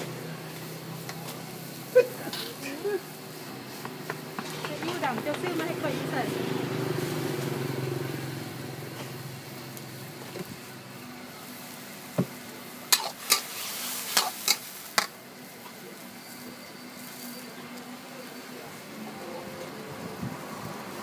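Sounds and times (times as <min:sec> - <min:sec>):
food sizzling in a pan: 0:00.0 - 0:17.5.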